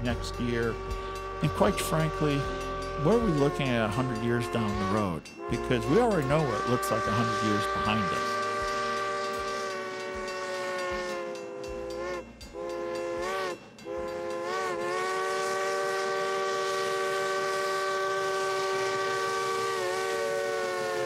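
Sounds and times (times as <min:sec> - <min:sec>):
steam locomotive whistle: 0:00.0 - 0:21.0.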